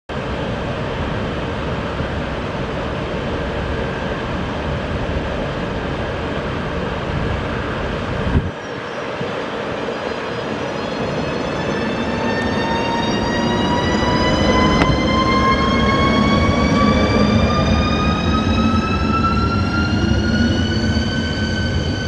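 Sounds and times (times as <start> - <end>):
electric locomotive rumbling: 0.1 - 22.0.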